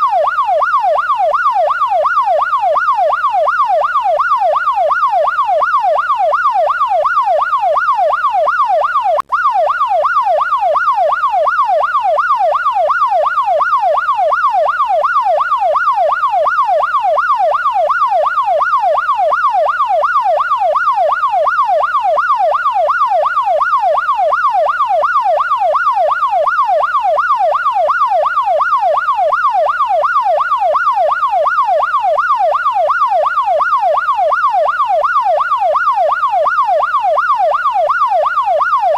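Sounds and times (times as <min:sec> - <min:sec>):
police siren yelp: 0:00.0 - 0:38.9.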